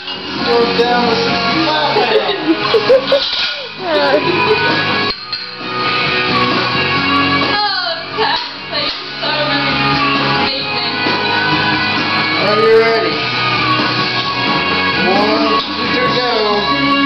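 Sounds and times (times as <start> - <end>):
song with singing and instruments: 0.0 - 17.0.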